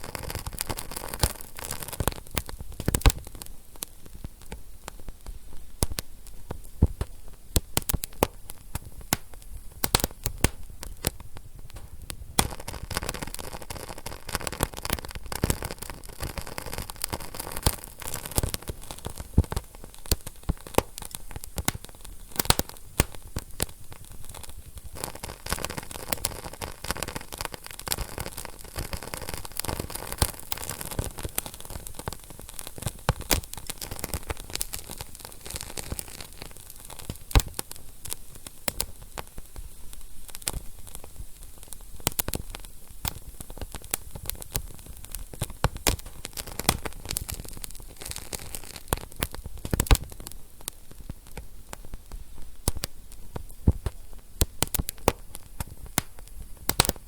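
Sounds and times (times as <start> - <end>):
fireplace fire crackling: 0.0 - 57.0
loud fire pops: 0.0 - 57.0.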